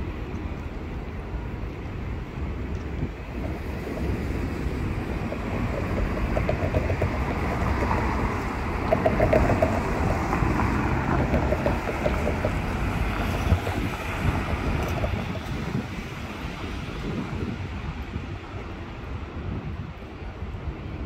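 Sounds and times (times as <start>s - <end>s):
traffic rumble: 0.0s - 21.0s
wind on microphone: 0.0s - 21.0s.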